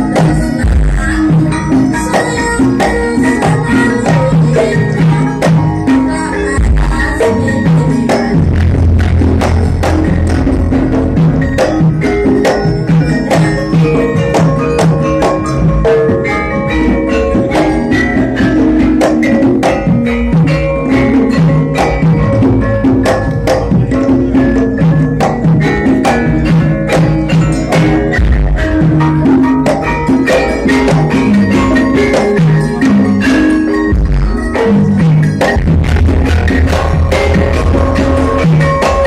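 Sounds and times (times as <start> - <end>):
bell-like mallet percussion music: 0.0 - 39.0.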